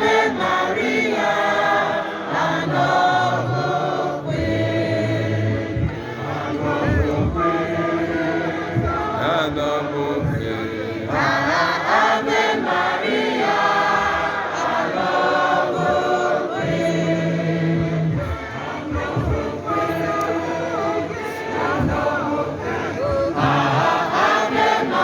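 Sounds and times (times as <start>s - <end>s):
choir singing a hymn: 0.0s - 25.0s.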